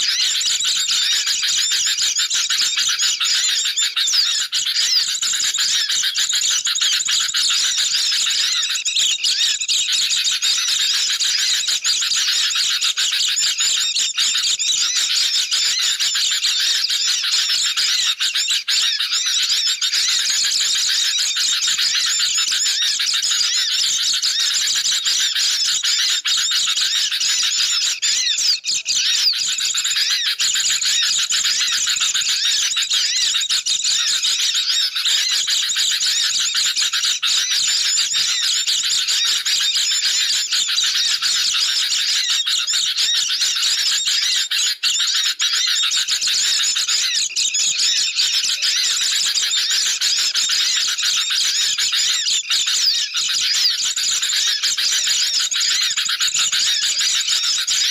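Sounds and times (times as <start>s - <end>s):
birds chattering and squeaky calls: 0.0s - 57.9s.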